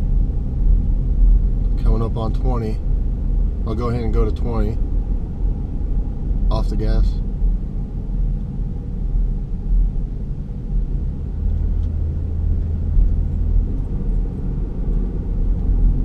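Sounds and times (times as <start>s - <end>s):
deep hum: 0.0s - 16.0s
road rumble inside car cabin: 0.0s - 16.0s.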